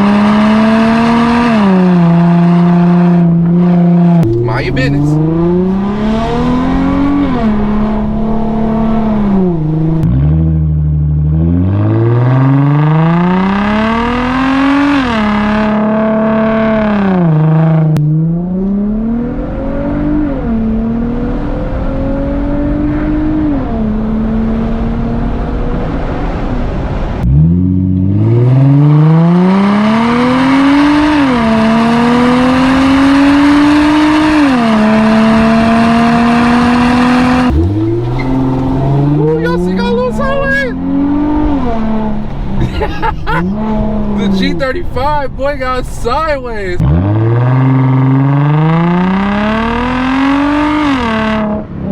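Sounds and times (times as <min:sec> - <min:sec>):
loud car engine accelerating: 0:00.0 - 0:51.9.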